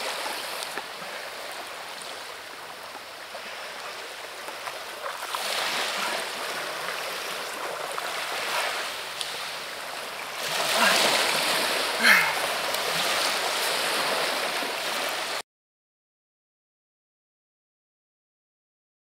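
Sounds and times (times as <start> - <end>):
small waves on pebble beach: 0.0 - 15.4.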